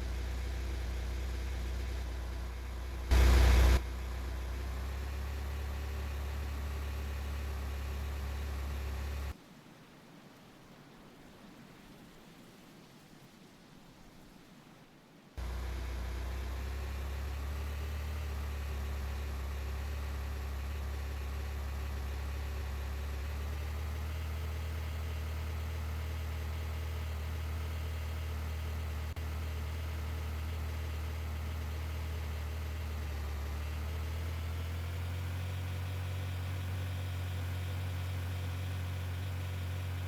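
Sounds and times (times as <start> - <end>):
car engine humming: 0.0 - 9.4, 15.4 - 40.0.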